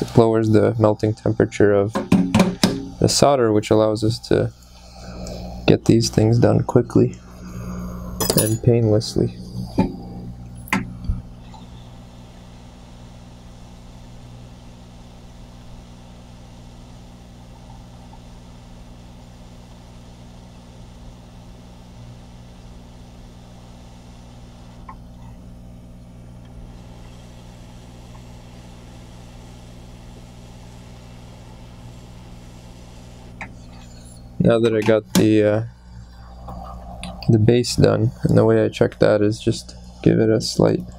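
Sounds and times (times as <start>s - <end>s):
hot air blower hissing: 0.0s - 40.9s
low electrical hum: 0.0s - 40.9s.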